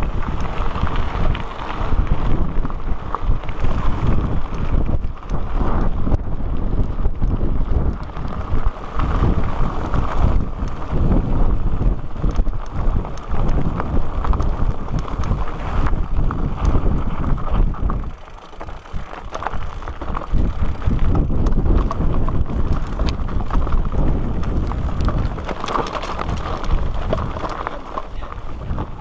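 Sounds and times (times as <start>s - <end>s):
bike rattling: 0.0s - 29.0s
tyres crunching over gravel: 0.0s - 29.0s
wind buffeting microphone: 0.0s - 29.0s.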